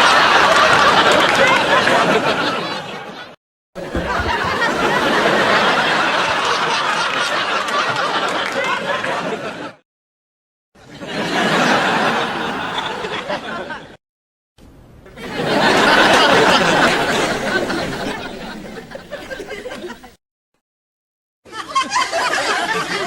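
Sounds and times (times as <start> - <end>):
studio audience laughing: 0.0 - 9.8, 10.8 - 14.0, 15.2 - 20.2, 21.5 - 23.0.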